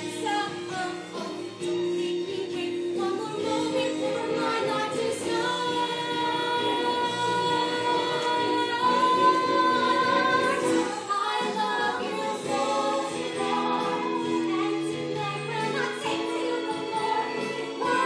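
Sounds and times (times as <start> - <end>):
instrumental backing: 0.0 - 18.0
women singing: 0.0 - 18.0.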